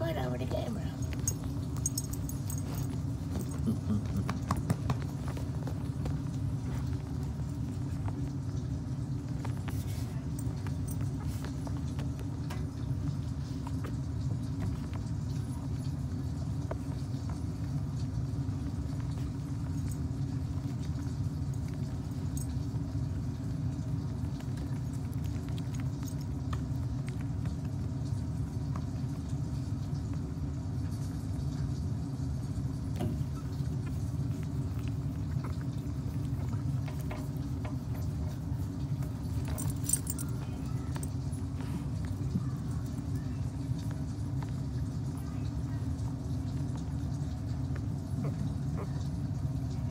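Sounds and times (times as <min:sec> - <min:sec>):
steady low rumble: 0:00.0 - 0:49.9.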